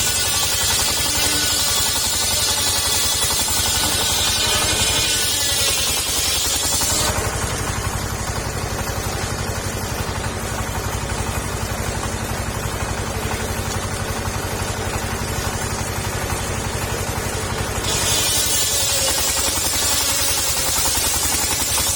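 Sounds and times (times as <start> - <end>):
petrol engine running: 0.0 - 21.9.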